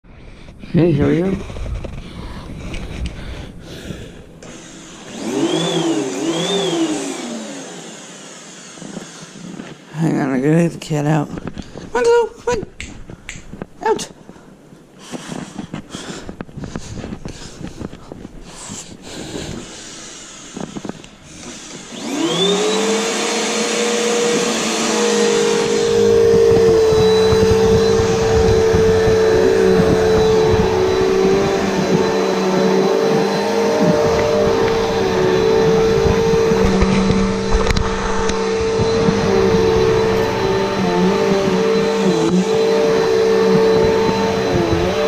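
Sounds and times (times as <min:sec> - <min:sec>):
vacuum cleaner motor whine: 0:00.8 - 0:10.6, 0:15.6 - 0:45.0.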